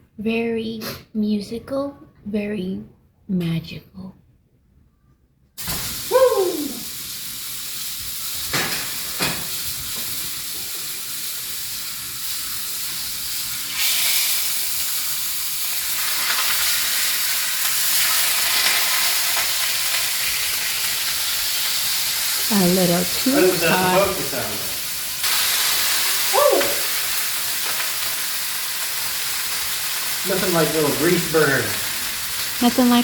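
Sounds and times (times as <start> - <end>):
food sizzling in a pan: 5.6 - 33.0.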